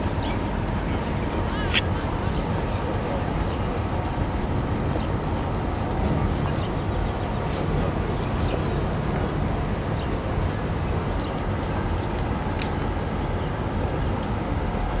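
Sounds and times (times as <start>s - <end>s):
ship engine low rumble: 0.0s - 15.0s.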